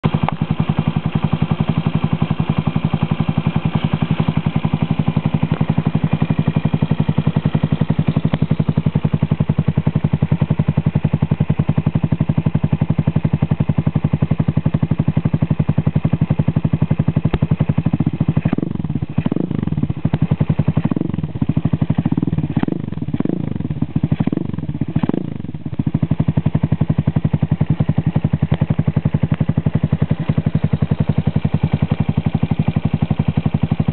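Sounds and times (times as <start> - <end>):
engine throttle blips: 0.0 - 33.9
motorcycle engine idling: 0.0 - 33.9.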